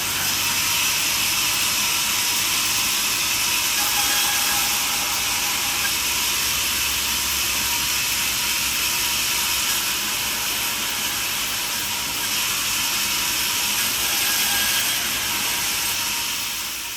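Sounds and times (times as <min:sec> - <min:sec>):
band sawmill cutting log: 0:00.0 - 0:16.4.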